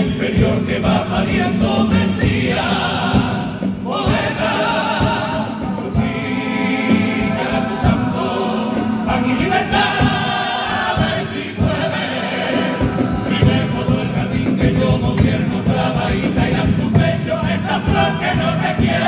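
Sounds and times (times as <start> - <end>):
male chorus singing in harmony: 0.0 - 19.0
steady beat: 0.0 - 19.0.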